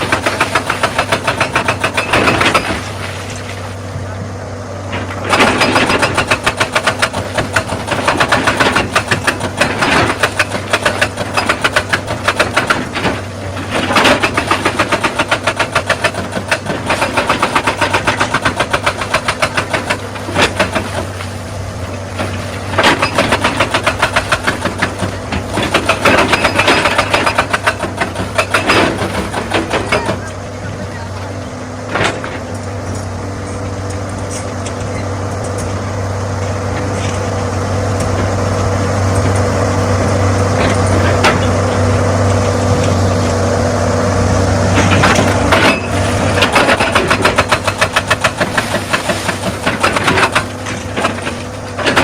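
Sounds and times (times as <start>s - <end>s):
diesel engine running: 0.0s - 52.0s
hydraulic rock breaker hammering: 0.0s - 52.0s.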